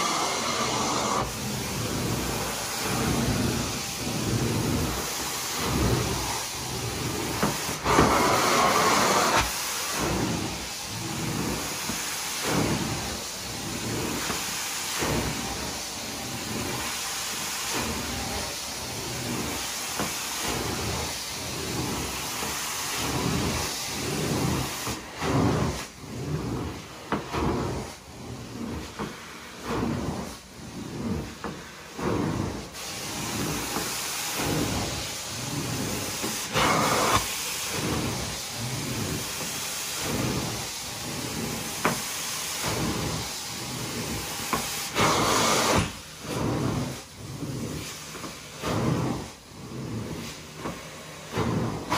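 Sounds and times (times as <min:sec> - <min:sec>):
carpet extractor vacuum hiss: 0:00.0 - 0:51.9.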